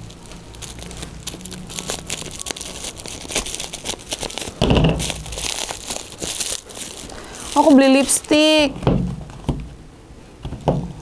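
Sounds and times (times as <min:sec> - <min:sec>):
plastic wrapping crinkling: 0:00.0 - 0:09.5.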